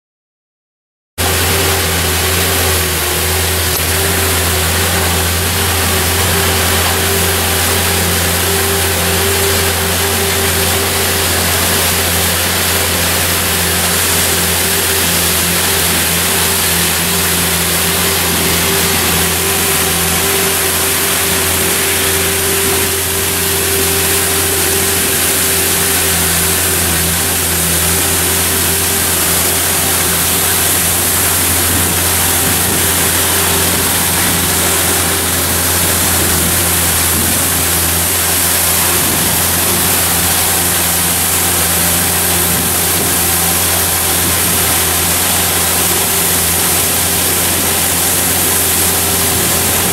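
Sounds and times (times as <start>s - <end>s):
brooms and water spray hissing: 1.2s - 49.9s
street sweeper engine hum: 1.2s - 49.9s.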